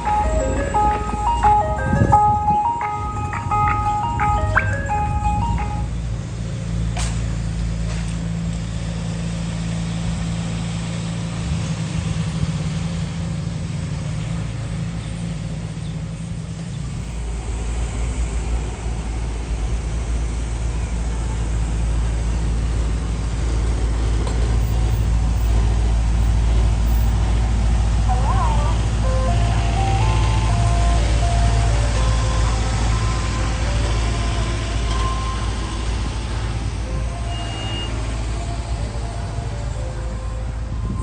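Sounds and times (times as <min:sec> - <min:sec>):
road and traffic noise: 0:00.0 - 0:41.0
vehicle engine running: 0:00.0 - 0:41.0.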